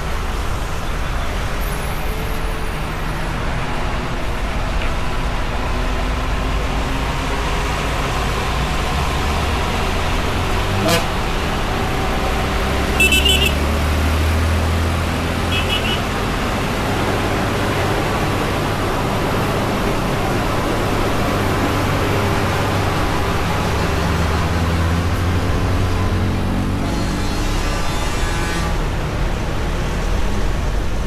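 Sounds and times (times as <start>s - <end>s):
heavy vehicle engine drone: 0.0s - 31.0s
road traffic: 0.0s - 31.0s.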